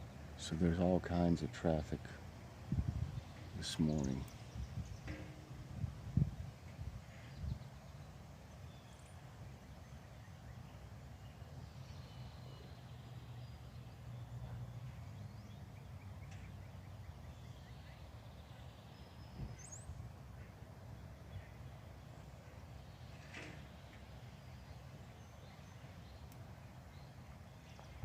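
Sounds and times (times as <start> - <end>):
distant traffic rumble: 0.0 - 28.0
bird chirps: 3.0 - 5.4, 7.1 - 28.0.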